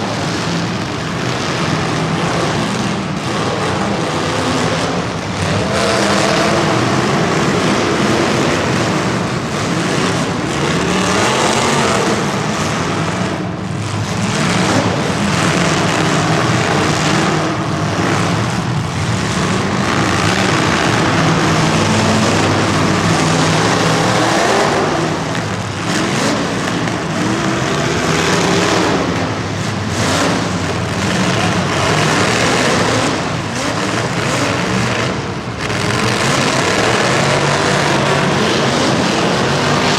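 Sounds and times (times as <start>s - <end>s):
racing engines revving: 0.0s - 39.9s.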